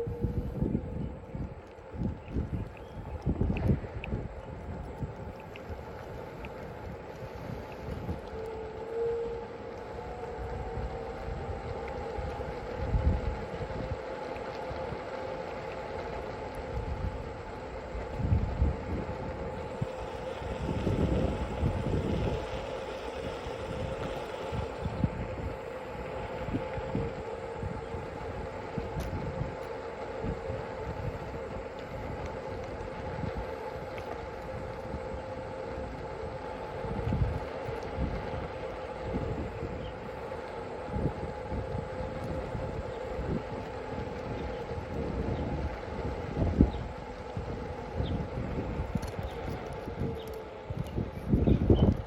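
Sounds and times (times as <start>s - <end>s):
steady motor hum: 0.0s - 52.0s
wind buffeting microphone: 0.0s - 52.0s.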